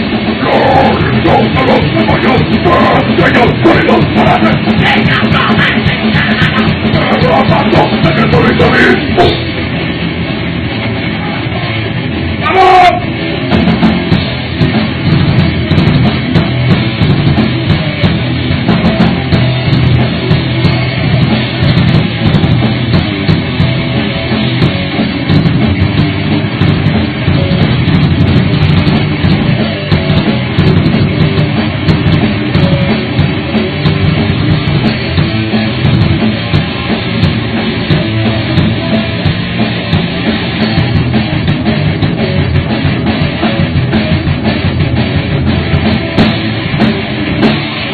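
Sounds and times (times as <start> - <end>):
distorted electric guitars: 0.0 - 47.9
fast driving drums: 0.0 - 47.9.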